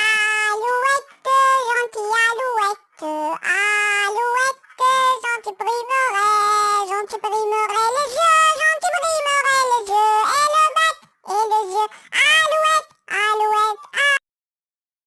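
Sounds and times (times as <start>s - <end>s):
high-pitched voice singing: 0.0s - 14.3s.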